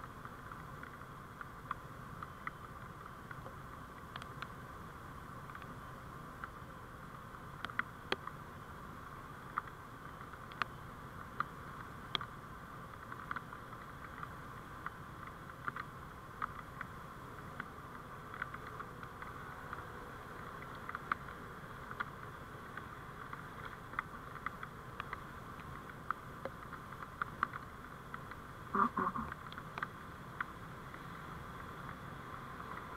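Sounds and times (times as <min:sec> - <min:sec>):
small clicks and ticks: 0:00.0 - 0:32.9
vehicle driving hum: 0:00.0 - 0:32.9.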